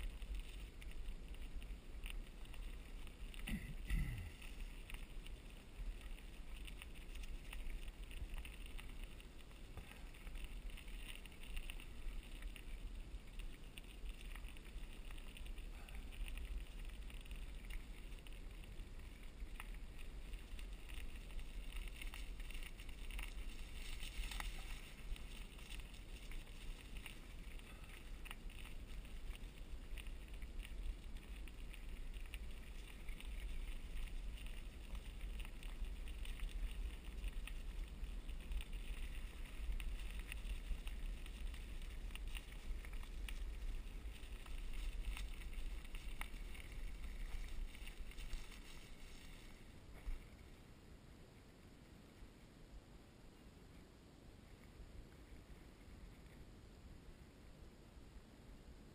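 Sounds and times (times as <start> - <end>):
wind rumble on microphone: 0.0 - 50.8
bicycle tyres on dirt trail: 0.0 - 58.9.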